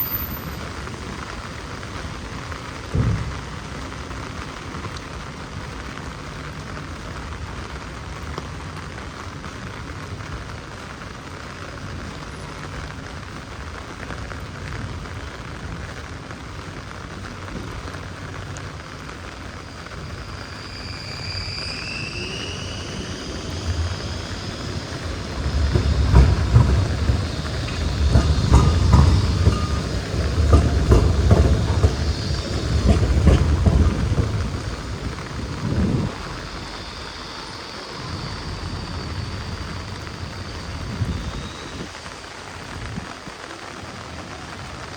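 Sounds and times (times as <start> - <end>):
tram high whine: 0.0 - 14.0, 14.9 - 44.0
heavy rain: 0.0 - 44.9
tram wheels rumbling on rails: 0.0 - 44.9.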